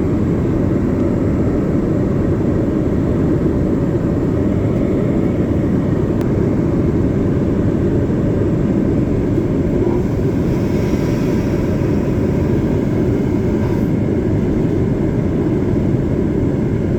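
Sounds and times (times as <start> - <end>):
airliner engines roaring in cabin: 0.0 - 16.9.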